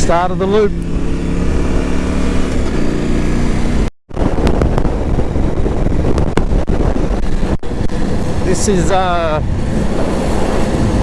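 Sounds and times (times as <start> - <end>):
motorcycle engine running: 0.0 - 11.0
wind rumble: 0.0 - 11.0.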